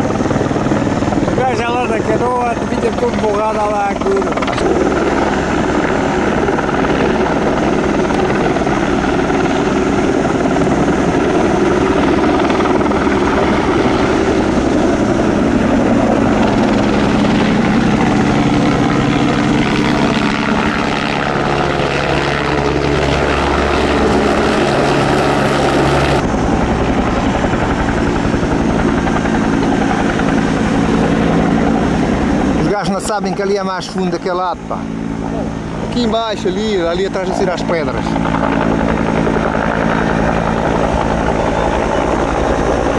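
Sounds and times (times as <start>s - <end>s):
helicopter rotor and turbine noise: 0.0s - 42.9s.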